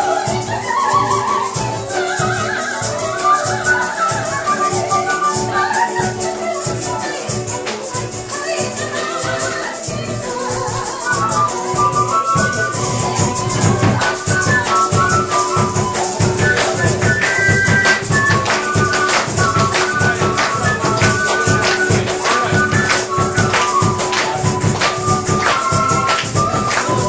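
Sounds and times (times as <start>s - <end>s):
quick percussion beat: 0.0s - 27.0s.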